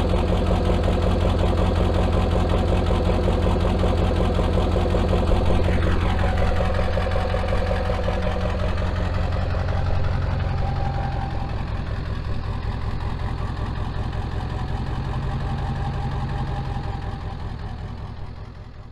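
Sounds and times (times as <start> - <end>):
truck engine running: 0.0 - 18.9.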